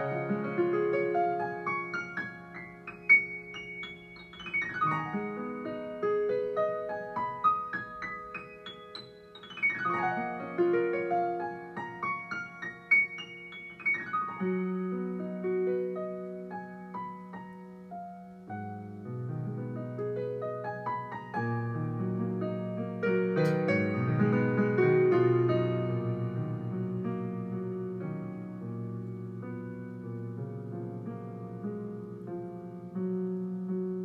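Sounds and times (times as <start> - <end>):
solo piano music: 0.0 - 34.0.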